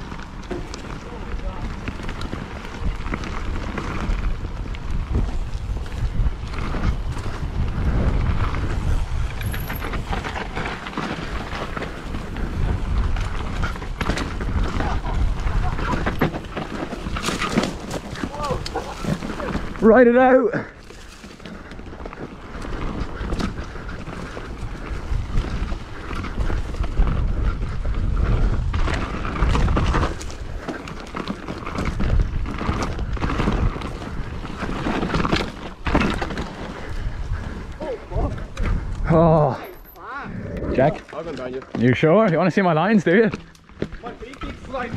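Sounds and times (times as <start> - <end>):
bike rattling over bumps: 0.0 - 44.9
tyre noise: 0.0 - 44.9
wind buffeting microphone: 0.0 - 44.9.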